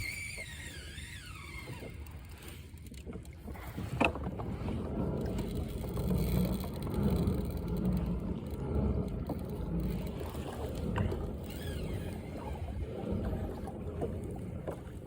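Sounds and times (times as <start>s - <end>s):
water rumbling: 0.0s - 15.0s
wind: 0.0s - 15.0s.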